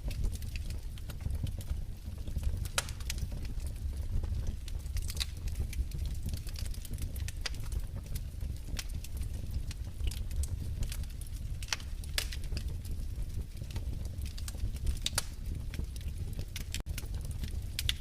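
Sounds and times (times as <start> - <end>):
low fire rumble: 0.0 - 18.0
wood fire popping and snapping: 0.0 - 18.0.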